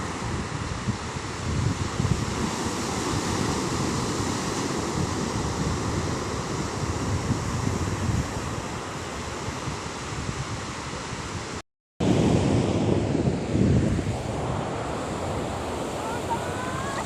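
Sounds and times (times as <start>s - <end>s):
ocean surf on beach: 0.0s - 17.0s
wind buffeting microphone: 0.0s - 17.0s.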